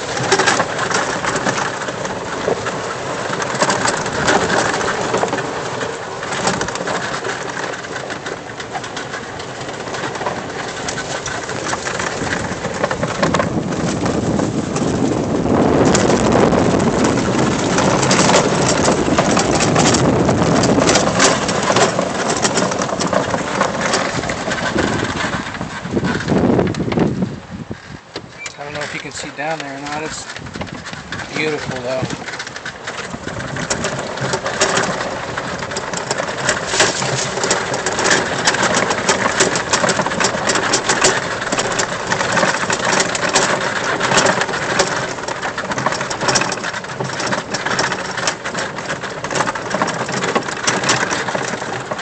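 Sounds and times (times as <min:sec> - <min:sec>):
golf cart rattling over rough trail: 0:00.0 - 0:52.0
loose things bouncing: 0:00.0 - 0:52.0.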